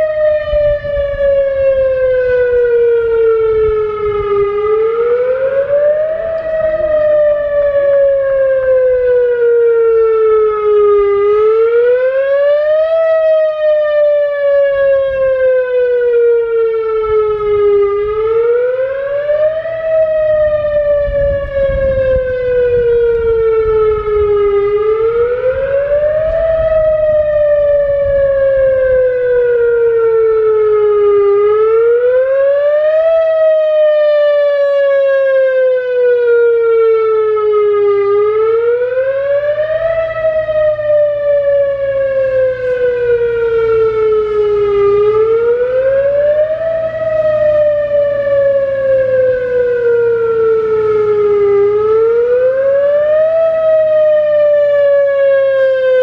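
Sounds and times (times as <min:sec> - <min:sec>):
warning siren wailing: 0:00.0 - 0:56.0.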